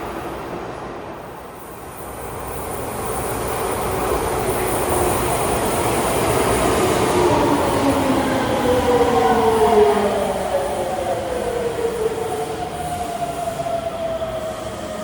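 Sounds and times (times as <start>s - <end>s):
electric train wheels on rails: 0.0s - 15.0s.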